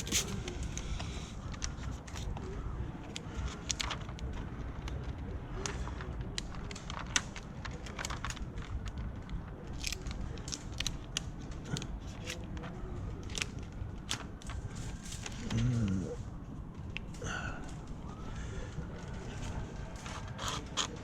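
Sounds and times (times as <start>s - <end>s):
low background noise: 0.0s - 21.0s
tint film crackling: 0.0s - 21.0s.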